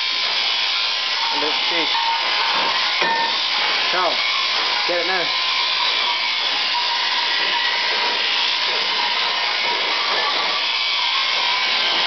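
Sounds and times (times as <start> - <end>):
shearing handpiece humming: 0.0 - 12.0.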